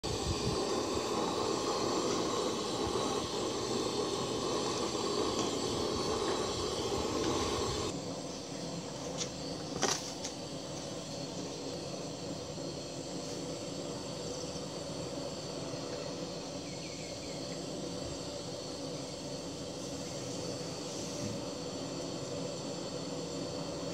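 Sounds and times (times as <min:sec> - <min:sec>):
insects chirring: 0:00.0 - 0:23.9
pot bubbling and hissing: 0:00.0 - 0:23.9.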